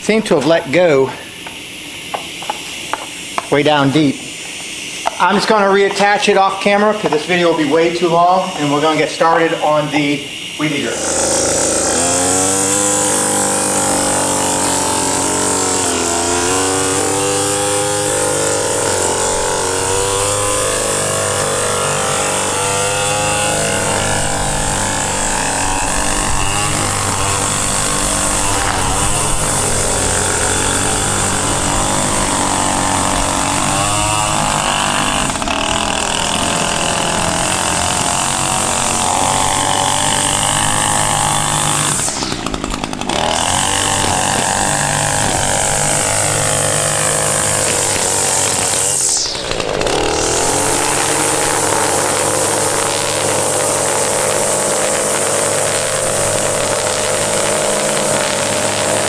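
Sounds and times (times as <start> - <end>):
string trimmer engine running: 0.0 - 59.0.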